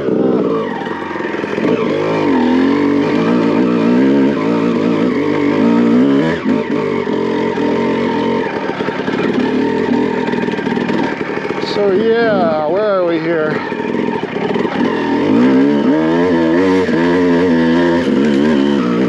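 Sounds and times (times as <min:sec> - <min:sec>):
two-stroke engine revving: 0:00.0 - 0:19.0.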